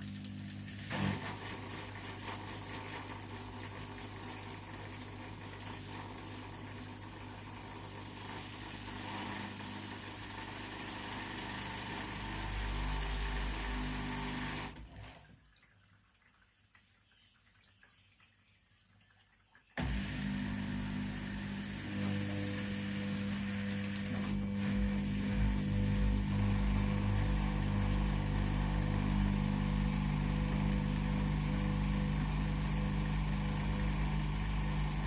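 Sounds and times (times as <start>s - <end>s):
washing machine motor hum: 0.0s - 15.2s, 19.8s - 35.0s.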